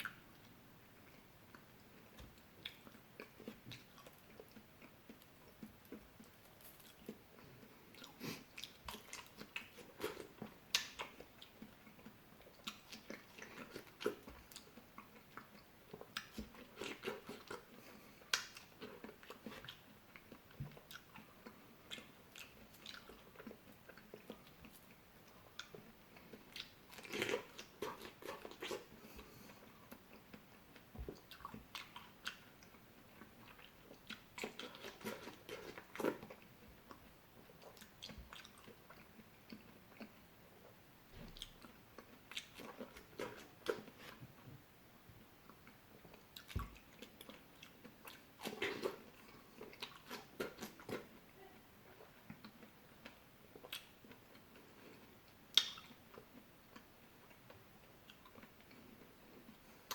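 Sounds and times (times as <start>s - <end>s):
person chewing and biting fruit: 0.0s - 44.4s, 45.4s - 51.2s, 52.0s - 59.9s.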